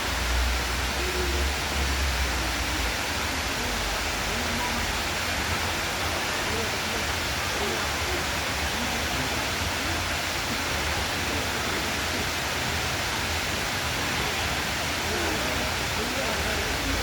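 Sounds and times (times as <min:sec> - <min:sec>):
waterfall cascading: 0:00.0 - 0:17.0.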